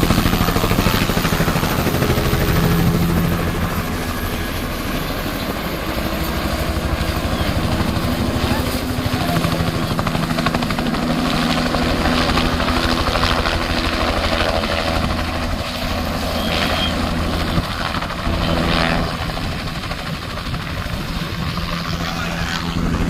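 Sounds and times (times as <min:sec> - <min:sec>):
helicopter engine hum: 0:00.0 - 0:23.0
helicopter rotor chop: 0:00.0 - 0:23.0.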